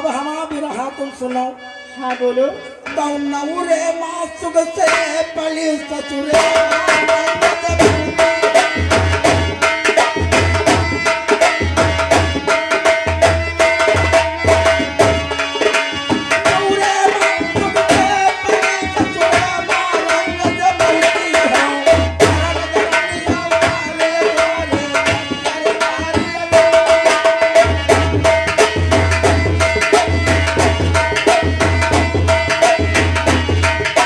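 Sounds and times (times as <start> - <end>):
fast hand-drum playing: 6.2 - 34.0.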